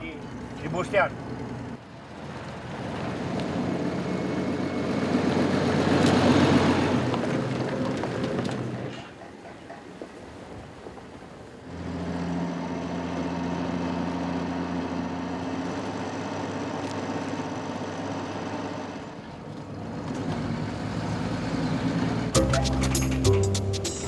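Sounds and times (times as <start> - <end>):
truck diesel engine running: 0.0 - 9.0, 11.6 - 24.0.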